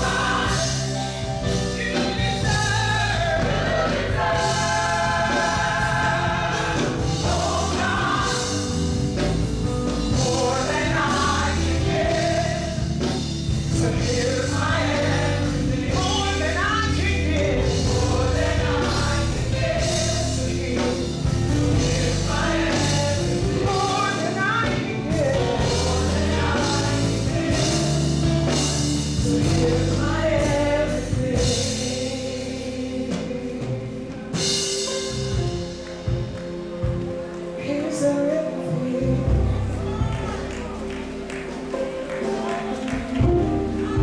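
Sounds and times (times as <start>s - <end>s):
bass: 0.0s - 44.0s
choir singing in harmony: 0.0s - 44.0s
drums: 0.0s - 44.0s.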